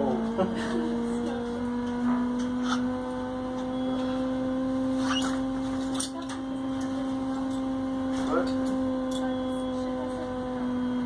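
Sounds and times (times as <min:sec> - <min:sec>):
stepper motor whining: 0:00.0 - 0:11.0.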